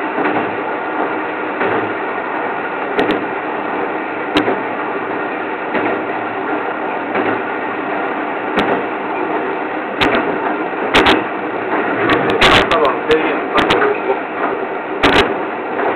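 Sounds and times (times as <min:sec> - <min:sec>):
train rumble and hiss: 0:00.0 - 0:15.9.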